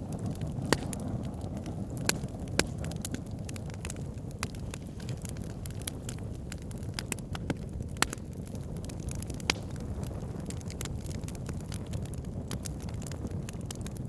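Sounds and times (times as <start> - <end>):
fire flames rumbling: 0.0 - 14.0
wood fire crackling and popping: 0.0 - 14.0.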